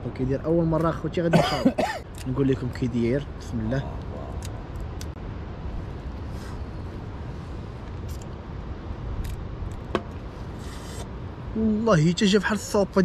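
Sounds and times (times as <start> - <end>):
wind rumble on microphone: 2.3 - 13.0.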